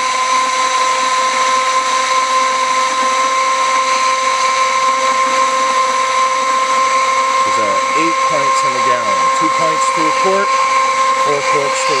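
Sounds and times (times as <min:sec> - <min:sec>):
electric mixer motor whining: 0:00.0 - 0:12.0.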